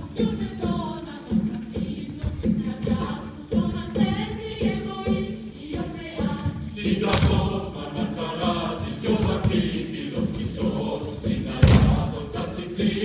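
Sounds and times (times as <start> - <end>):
low thuds beat: 0.0 - 13.0
mixed choir chanting: 0.0 - 13.0.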